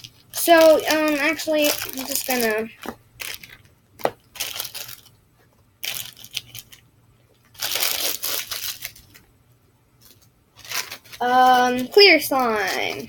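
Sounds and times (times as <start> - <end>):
plastic bag crinkling: 0.0 - 5.2, 5.8 - 9.3, 10.0 - 13.0.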